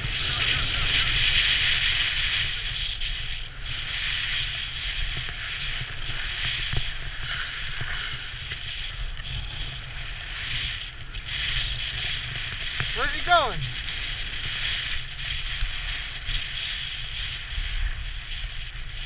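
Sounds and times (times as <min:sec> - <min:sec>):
sliding over packed snow: 0:00.0 - 0:19.0.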